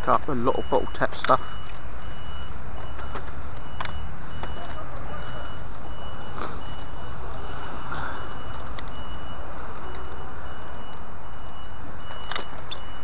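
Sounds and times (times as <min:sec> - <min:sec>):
reversing alarm beeps: 0:00.0 - 0:13.0.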